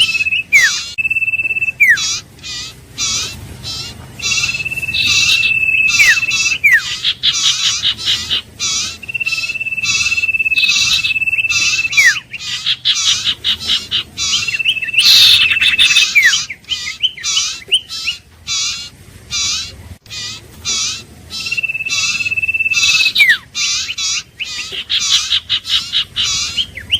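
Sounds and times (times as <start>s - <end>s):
fast high chirps: 0.0s - 26.9s.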